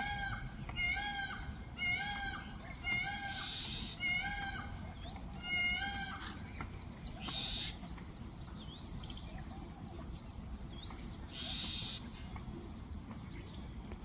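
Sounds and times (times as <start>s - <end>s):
hissy high-pitched bird calls: 0.0s - 7.9s, 8.6s - 12.4s.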